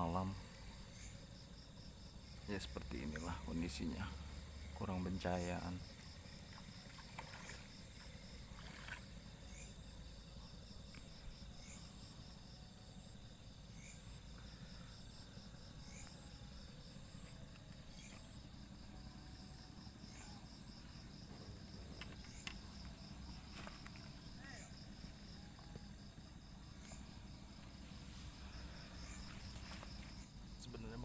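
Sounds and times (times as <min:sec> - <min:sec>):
high insect trill: 0:00.0 - 0:31.0
low steady rumble: 0:00.0 - 0:31.0
rapid pulsing insect trill: 0:00.0 - 0:31.0
short insect chirp: 0:00.0 - 0:31.0.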